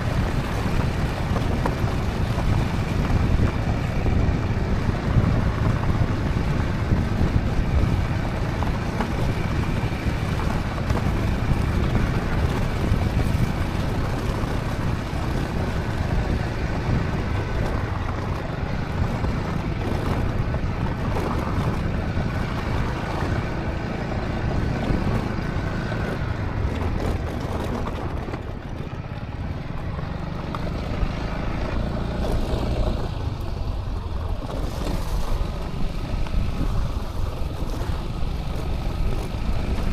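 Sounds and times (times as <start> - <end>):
scooter engine running: 0.0 - 39.9
wind rushing over microphone: 0.0 - 39.9.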